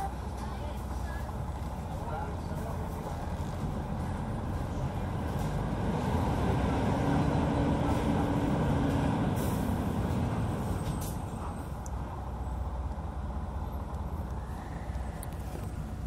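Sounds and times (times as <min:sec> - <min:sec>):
bus engine with whine: 0:00.0 - 0:16.0.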